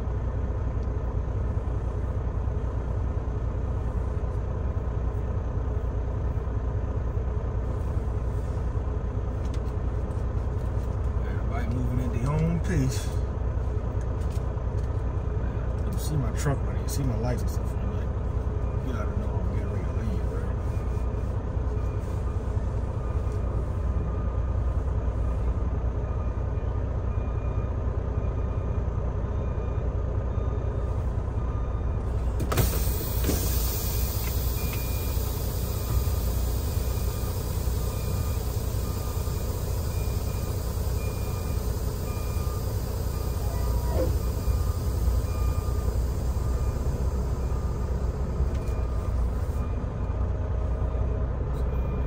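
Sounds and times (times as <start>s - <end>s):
diesel truck engine rumbling: 0.0s - 52.0s.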